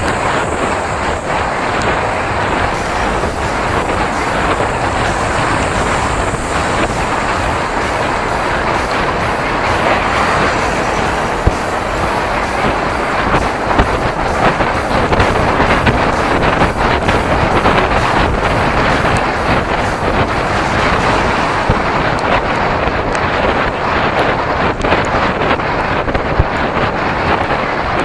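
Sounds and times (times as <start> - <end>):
bicycle road noise: 0.0 - 28.0
wind rushing over microphone: 0.0 - 28.0.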